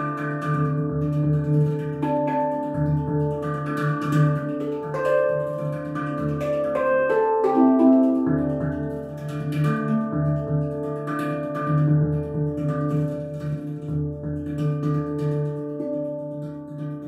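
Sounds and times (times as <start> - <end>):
handpan notes ringing: 0.0 - 17.0.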